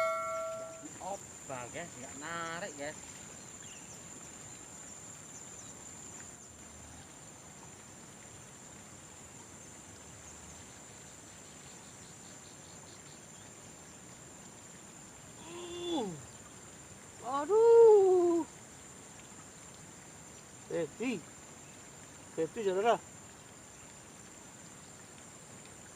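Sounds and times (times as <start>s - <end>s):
faint outdoor hiss: 0.0s - 25.9s
insects chirring: 0.0s - 25.9s.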